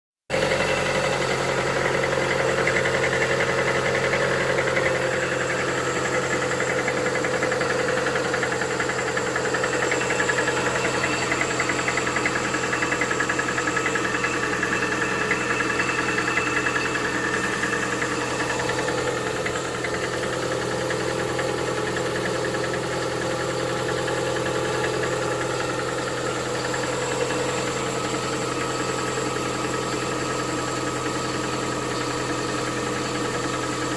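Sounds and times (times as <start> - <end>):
car engine idling with knocking: 0.3 - 33.9.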